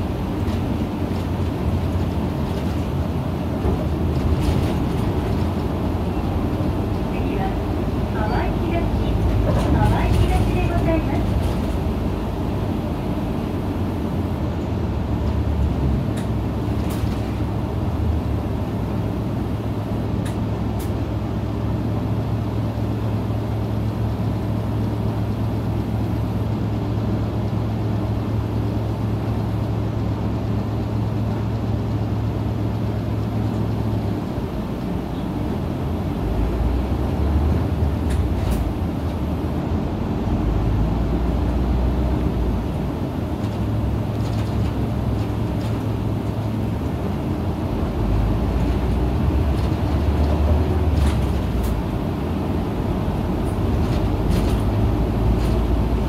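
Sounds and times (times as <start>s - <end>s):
bus diesel engine drone: 0.0s - 56.0s
road rumble: 0.0s - 56.0s.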